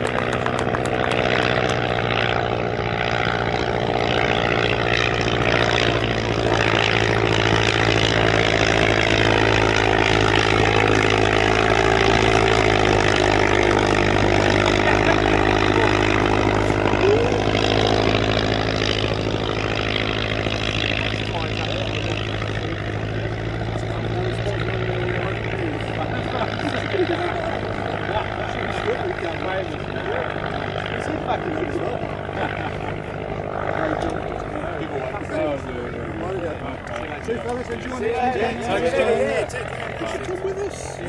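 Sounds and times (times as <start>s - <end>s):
propeller aircraft engine running: 0.0s - 41.0s.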